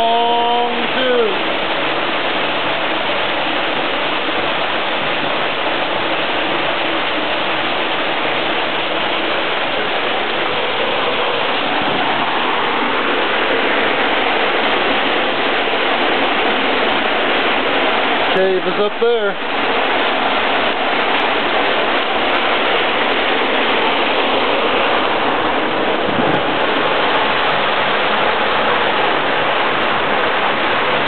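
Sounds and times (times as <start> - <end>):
creek water rushing and splashing: 0.0 - 31.0.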